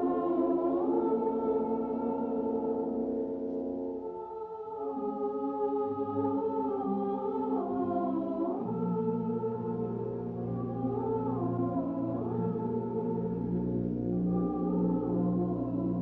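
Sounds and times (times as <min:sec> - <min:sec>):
slow choral chords: 0:00.0 - 0:16.0.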